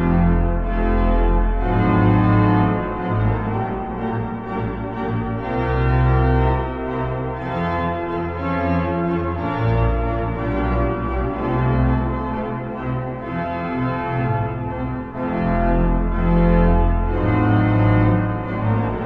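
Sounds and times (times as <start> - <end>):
organ playing slow chords: 0.0 - 19.0.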